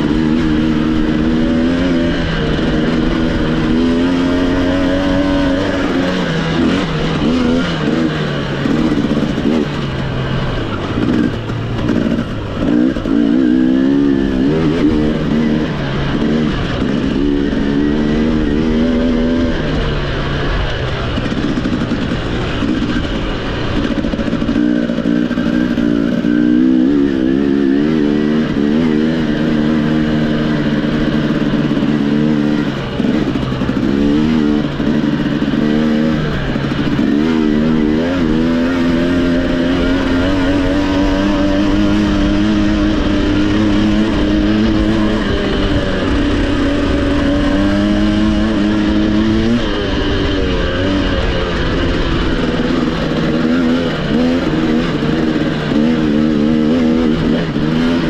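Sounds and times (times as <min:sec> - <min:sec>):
racing motorcycle engine: 0:00.0 - 0:58.0
wind noise: 0:00.0 - 0:58.0.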